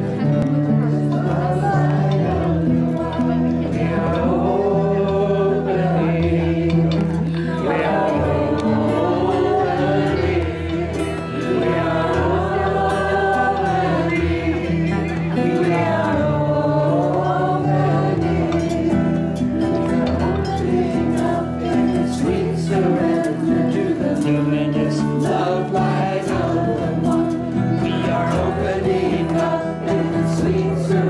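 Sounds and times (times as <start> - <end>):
acoustic guitar: 0.0 - 31.0
group singing devotional song: 0.0 - 31.0
woman singing into microphone: 1.1 - 31.0.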